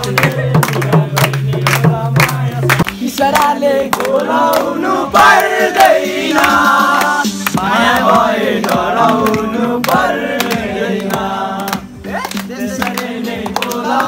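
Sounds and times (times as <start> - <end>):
group of voices singing: 0.0 - 14.0
steady beat: 0.0 - 14.0.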